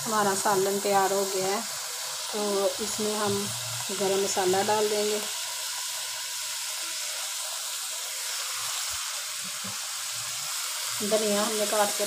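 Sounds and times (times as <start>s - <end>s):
curry sizzling in a pot: 0.0s - 12.0s.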